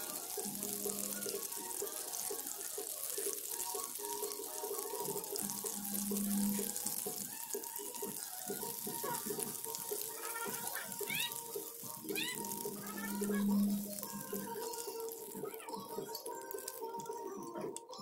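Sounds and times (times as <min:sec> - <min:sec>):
shrimp sizzling in hot oil: 0:00.0 - 0:18.0.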